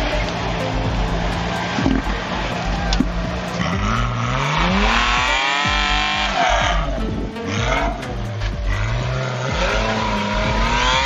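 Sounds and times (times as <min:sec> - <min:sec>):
background music with steady beat: 0:00.0 - 0:11.0
off-road engine revving hard: 0:00.0 - 0:11.0.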